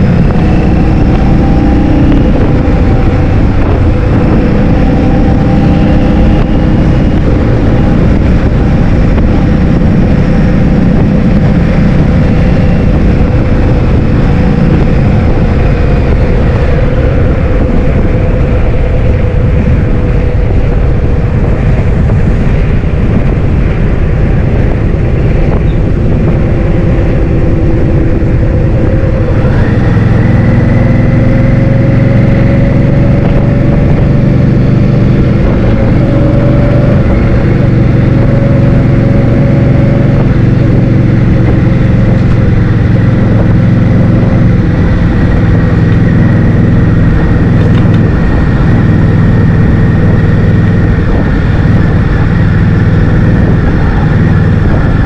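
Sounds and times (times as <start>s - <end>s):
scooter engine running: 0.0s - 55.0s
wind rushing over microphone: 0.0s - 55.0s.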